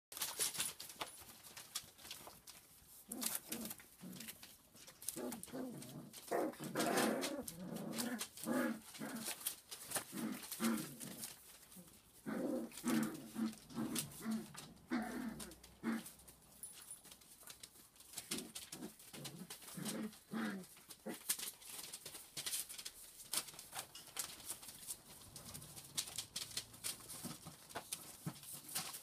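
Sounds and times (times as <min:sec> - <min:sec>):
puppies crying and grunting: 0:03.0 - 0:29.0.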